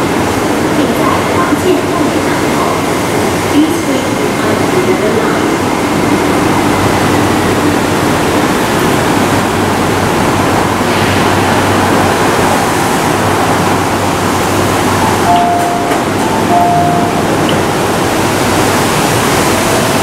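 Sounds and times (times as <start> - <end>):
train ventilation rushing noise: 0.0 - 20.0.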